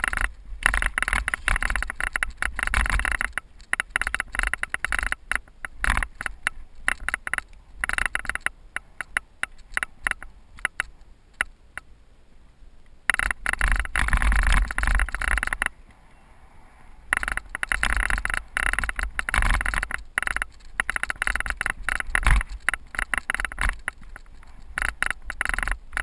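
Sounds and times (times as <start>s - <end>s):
bike rattling on rough trail: 0.0s - 11.9s, 13.0s - 16.0s, 16.8s - 26.0s.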